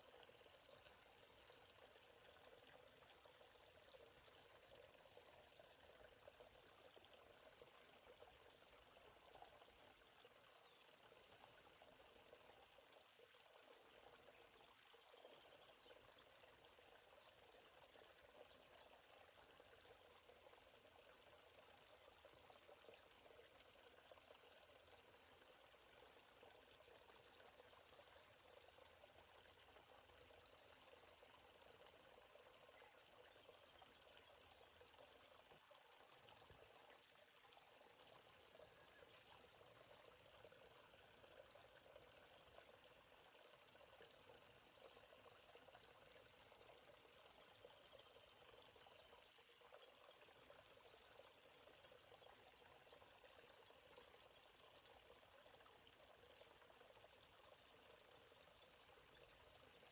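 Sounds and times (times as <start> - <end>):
forest stream murmuring: 0.0 - 59.9
high-pitched insect chorus: 0.0 - 59.9.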